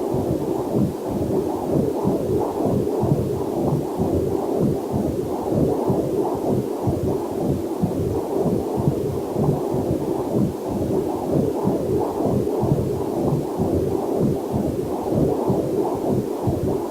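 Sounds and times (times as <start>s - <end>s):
doppler heartbeat whooshing: 0.0s - 16.9s.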